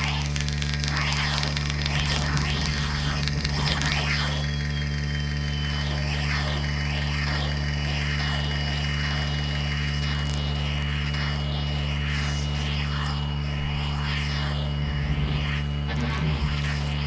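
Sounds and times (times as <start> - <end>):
rough crackly haze: 0.0 - 7.0, 8.7 - 17.0
low electronic drone: 0.0 - 17.0.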